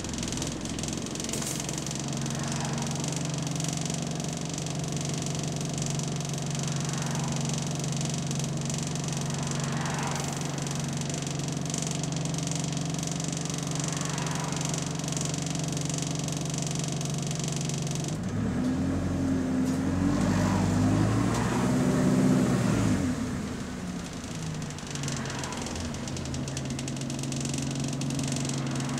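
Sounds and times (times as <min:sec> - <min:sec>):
bus engine: 0:00.0 - 0:28.9.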